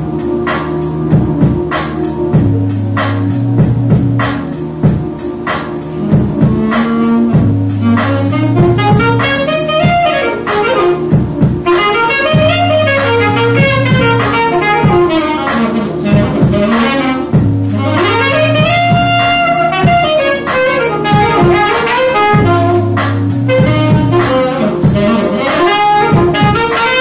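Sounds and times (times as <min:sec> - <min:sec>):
jazzy saxophone melody: 0:00.0 - 0:27.0
steady beat with bass line: 0:00.0 - 0:27.0.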